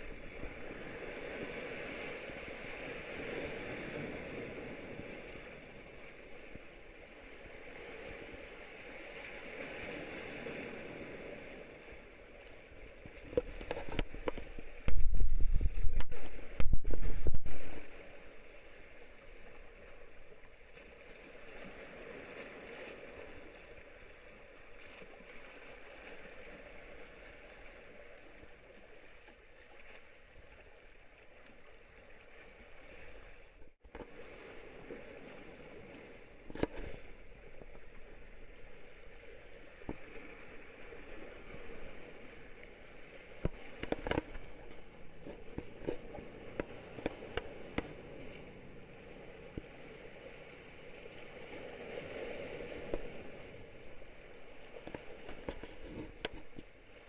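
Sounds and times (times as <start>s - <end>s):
sea water washing against rocks: 0.0s - 57.0s.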